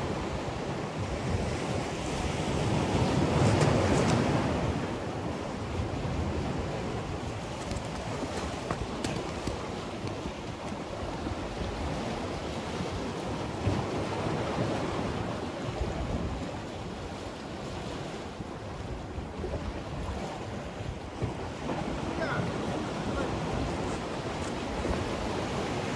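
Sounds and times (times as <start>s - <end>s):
waves splashing against rocks: 0.0s - 25.9s
wind buffeting microphone: 0.0s - 25.9s.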